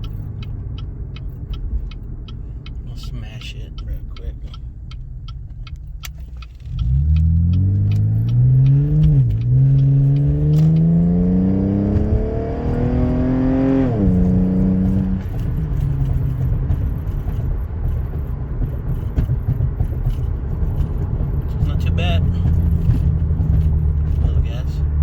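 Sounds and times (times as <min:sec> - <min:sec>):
car exhaust accelerating: 0:00.0 - 0:25.0
road noise: 0:00.0 - 0:25.0.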